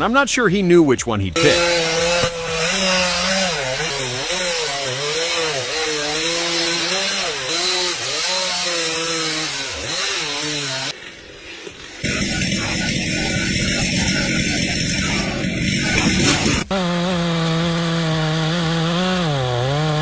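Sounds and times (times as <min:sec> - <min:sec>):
chainsaw cutting into tree: 0:01.4 - 0:20.0.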